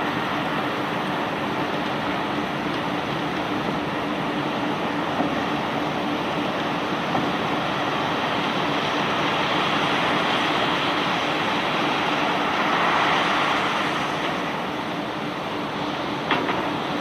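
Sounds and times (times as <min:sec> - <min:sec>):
conveyor belt rushing: 0:00.0 - 0:17.0.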